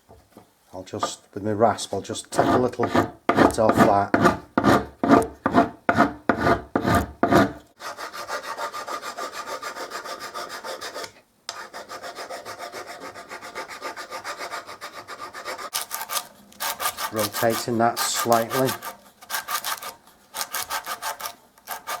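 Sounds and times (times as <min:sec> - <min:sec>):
hand rasp filing wood: 0:02.3 - 0:22.0.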